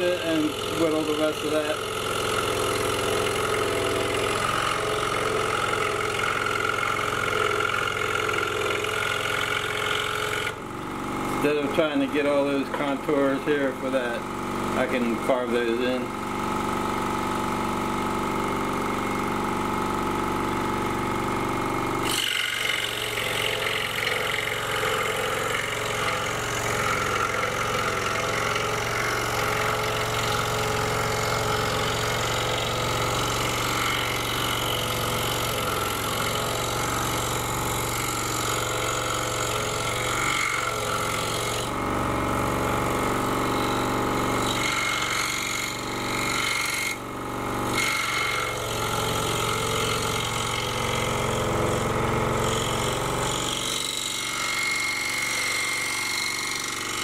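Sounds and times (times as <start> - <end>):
scroll saw cutting wood: 0.0 - 57.0.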